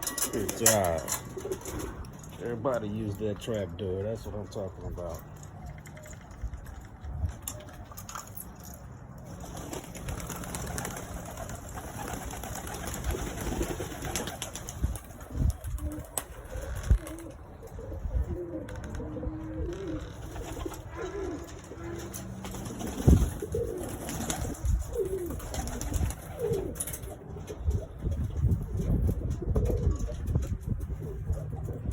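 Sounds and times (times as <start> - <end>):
pigeons cooing: 0.0 - 3.1, 9.3 - 31.9.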